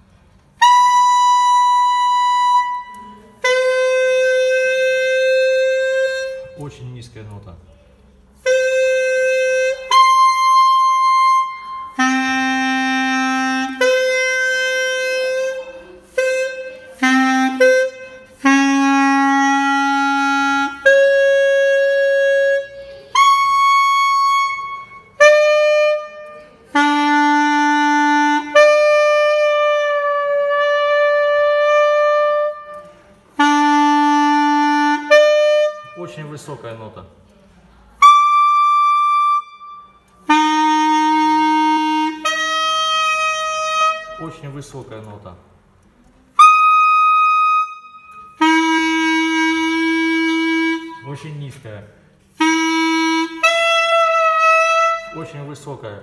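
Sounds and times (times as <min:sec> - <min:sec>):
clarinet playing long notes: 0:00.5 - 0:06.8, 0:08.4 - 0:36.5, 0:38.0 - 0:44.7, 0:46.2 - 0:51.6, 0:52.2 - 0:56.0.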